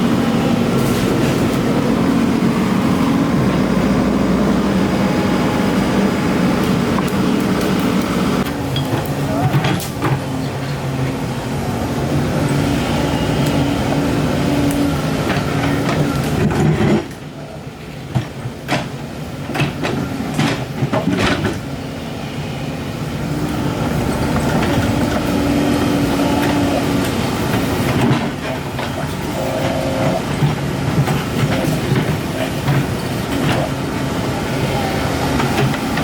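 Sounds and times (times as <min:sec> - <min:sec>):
excavator engine running: 0:00.0 - 0:36.0
excavator whine: 0:00.0 - 0:36.0.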